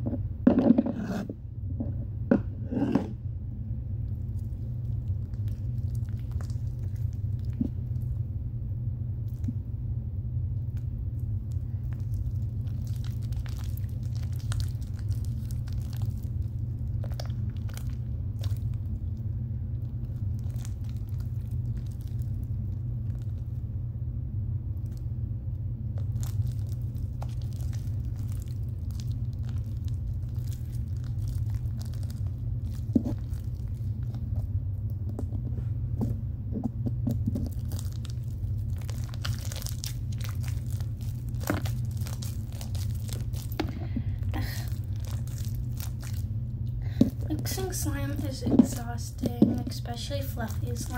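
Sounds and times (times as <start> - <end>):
low rumble: 0.0 - 50.9
slime squishing and crackling: 4.0 - 8.2, 9.2 - 9.6, 10.6 - 23.7, 24.7 - 25.1, 25.8 - 50.9.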